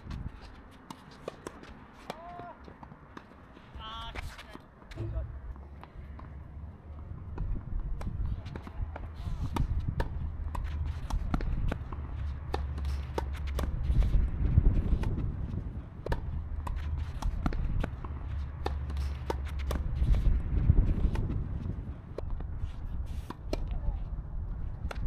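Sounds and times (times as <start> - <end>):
steady low rumble: 4.9 - 25.0.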